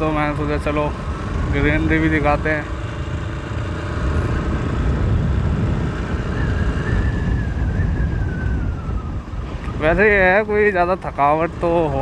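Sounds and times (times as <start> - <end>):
motorcycle engine: 0.0 - 12.0
road noise: 0.0 - 12.0
wind rumbling on microphone: 0.0 - 12.0.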